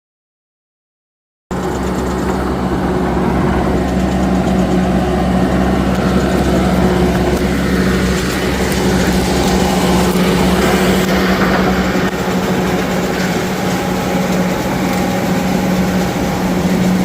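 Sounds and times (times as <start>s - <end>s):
tractor and harvester droning: 1.5s - 17.0s.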